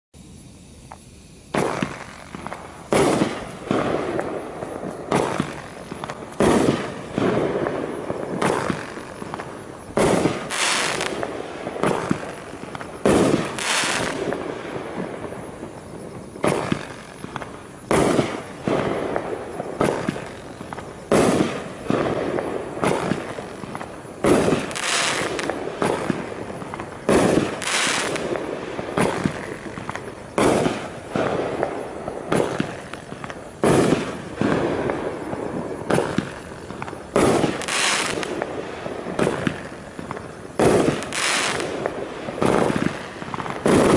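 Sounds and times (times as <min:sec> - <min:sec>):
firework bangs: 0:00.7 - 0:43.9.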